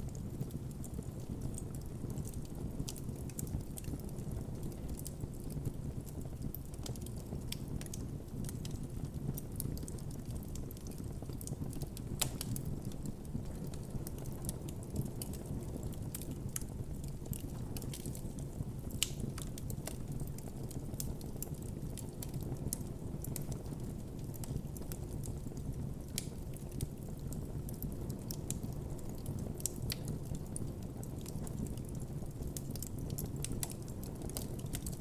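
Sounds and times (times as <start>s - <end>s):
campfire flames rumbling: 0.0s - 35.0s
fire crackling: 0.0s - 35.0s.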